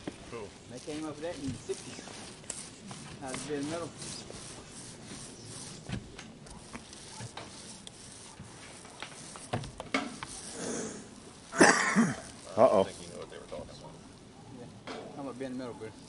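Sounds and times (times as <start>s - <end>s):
paint rollers rubbing: 0.0s - 14.2s.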